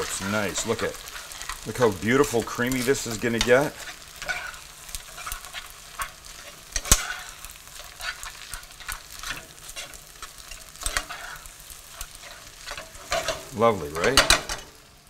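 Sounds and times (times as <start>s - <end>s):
spoon scraping a pan: 0.0s - 14.6s
soft sizzle: 0.0s - 15.0s.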